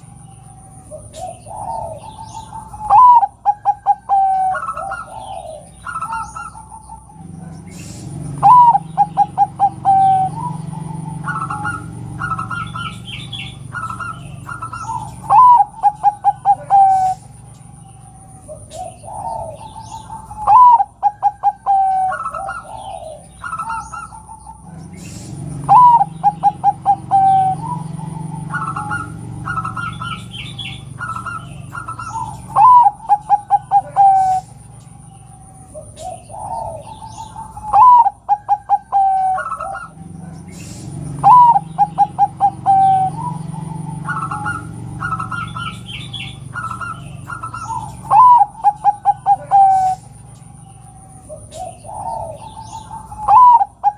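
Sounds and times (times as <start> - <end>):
dove cooing: 0.0 - 53.9
high bird chirps: 0.0 - 53.9.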